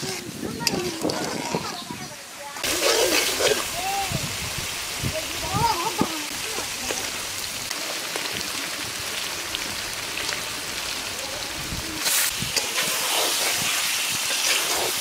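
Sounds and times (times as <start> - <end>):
paste sizzling in oil: 0.0 - 15.0
fish going into hot oil: 2.6 - 15.0.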